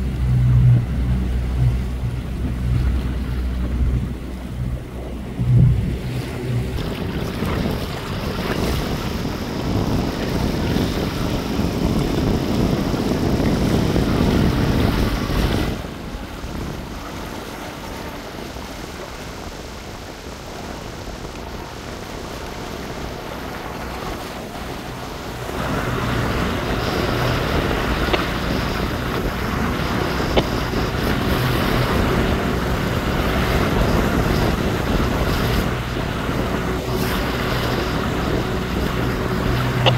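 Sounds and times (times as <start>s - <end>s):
outboard motor running: 0.0s - 39.9s
water noise: 0.0s - 39.9s
wind buffeting microphone: 0.0s - 39.9s.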